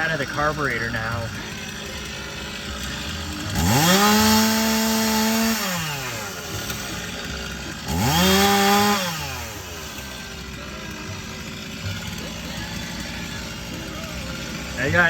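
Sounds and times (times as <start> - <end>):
engine cranking without starting: 0.0 - 15.0.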